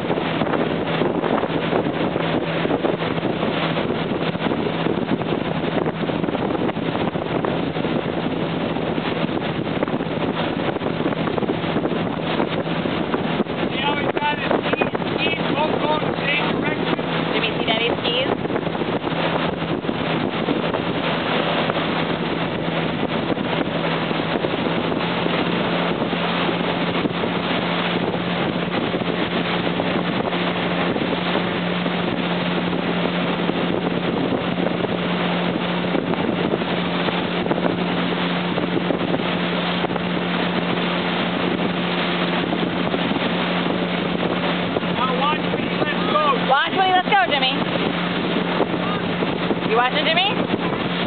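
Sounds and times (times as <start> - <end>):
outboard motor running: 0.0 - 51.0
water and wind rushing: 0.0 - 51.0.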